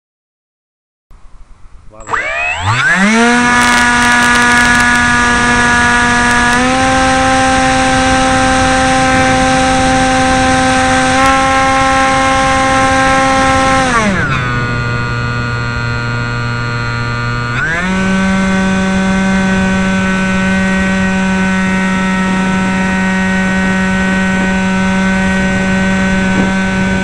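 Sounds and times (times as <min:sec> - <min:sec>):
electric motor whining: 0:02.0 - 0:27.0.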